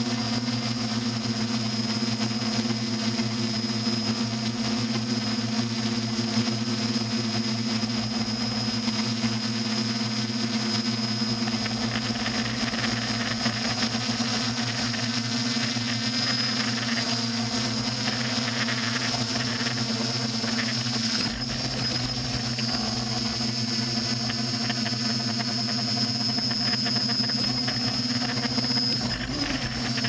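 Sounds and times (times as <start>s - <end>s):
aircraft engine and propellers droning: 0.0s - 30.0s
thin high whine: 0.0s - 30.0s.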